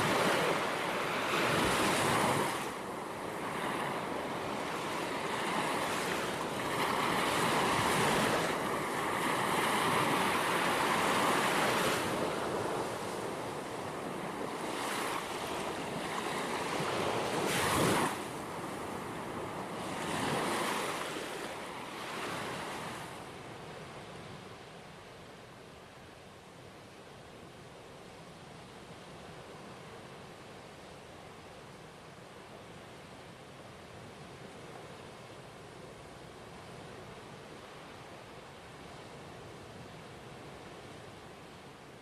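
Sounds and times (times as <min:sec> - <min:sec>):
ocean waves breaking on shore: 0:00.0 - 0:42.0
wind: 0:00.0 - 0:42.0.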